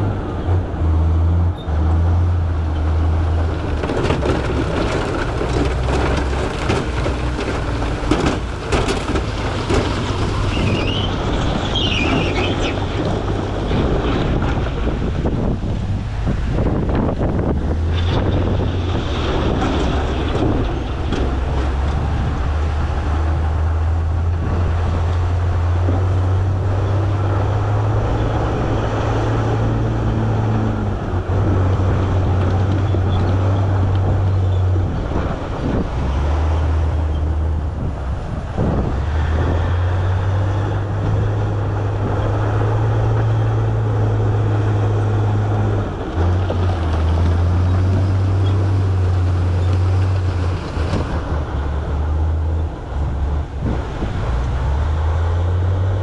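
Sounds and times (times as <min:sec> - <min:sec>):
diesel engine droning under load: 0:00.0 - 0:56.0.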